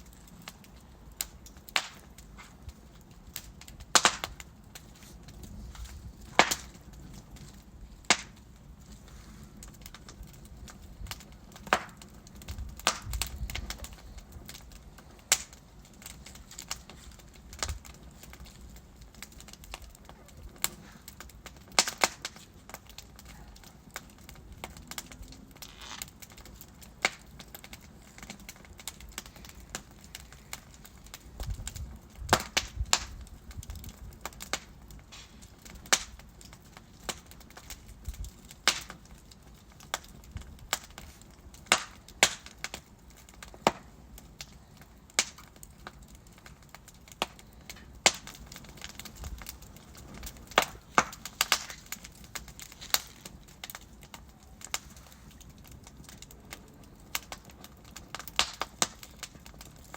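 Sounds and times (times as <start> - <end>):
wood fire pops and snaps: 0.0 - 59.9.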